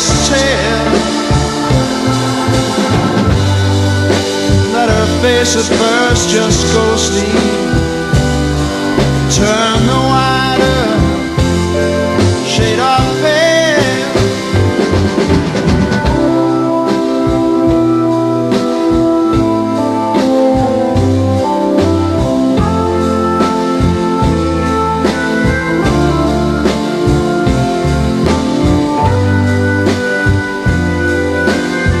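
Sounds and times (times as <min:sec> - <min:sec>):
slow rock instrumental music: 0:00.0 - 0:32.0.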